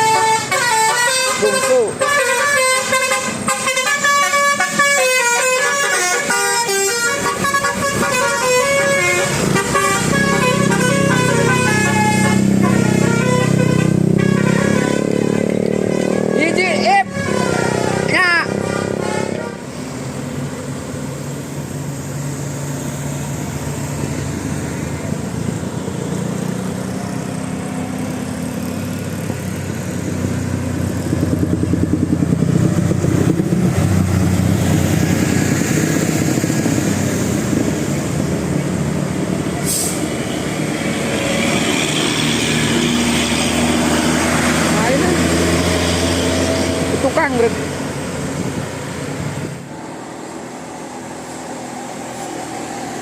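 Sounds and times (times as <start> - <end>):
bus engine passing: 0.0 - 53.0
road traffic: 0.0 - 53.0.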